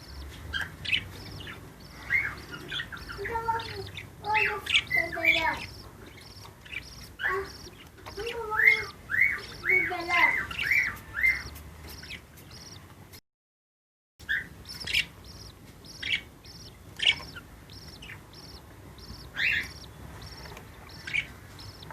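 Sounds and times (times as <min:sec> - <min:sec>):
budgerigars chirping: 0:00.0 - 0:12.9, 0:14.2 - 0:21.9.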